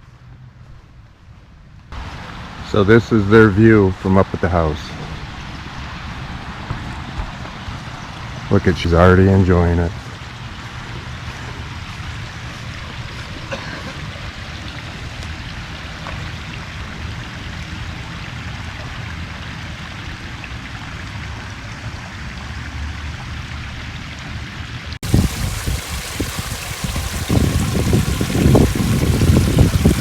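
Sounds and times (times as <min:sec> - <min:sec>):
water running down waterfalls: 0:02.0 - 0:22.2, 0:25.0 - 0:30.0.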